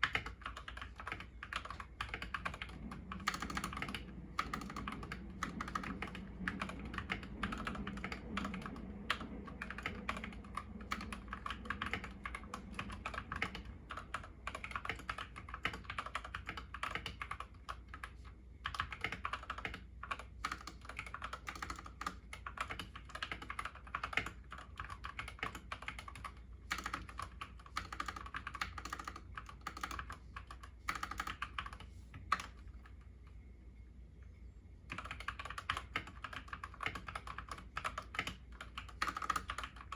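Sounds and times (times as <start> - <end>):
typing on mechanical keyboard: 0.0 - 33.0, 34.9 - 39.9.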